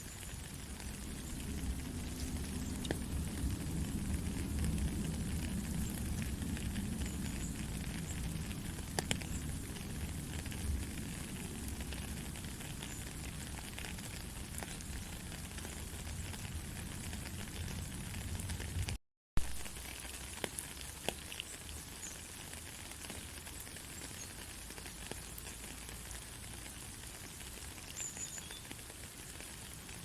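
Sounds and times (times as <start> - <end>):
gentle rain patter: 0.0 - 30.0.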